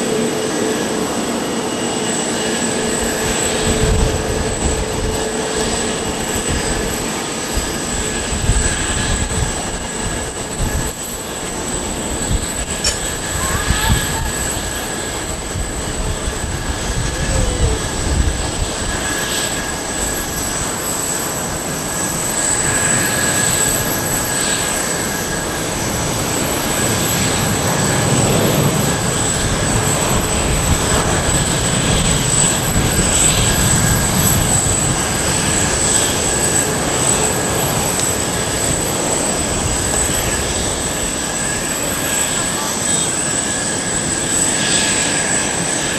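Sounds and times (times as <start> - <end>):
high jet whine: 0.0 - 45.9
jet engines roaring: 0.0 - 45.9.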